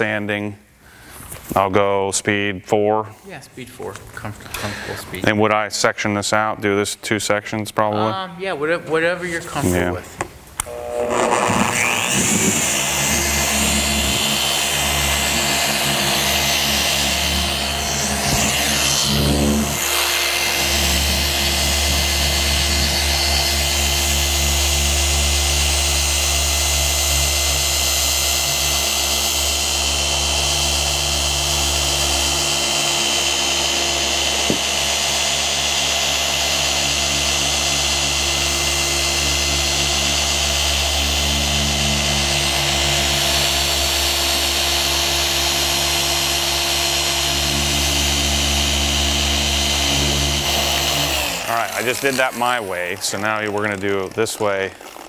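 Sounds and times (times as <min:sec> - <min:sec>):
polisher running: 0:10.6 - 0:55.0.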